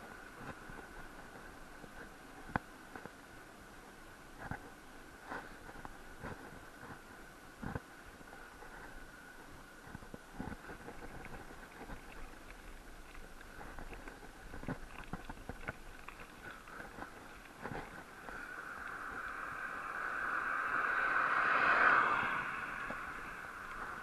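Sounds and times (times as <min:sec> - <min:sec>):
wind and tyre noise: 0:00.0 - 0:24.0.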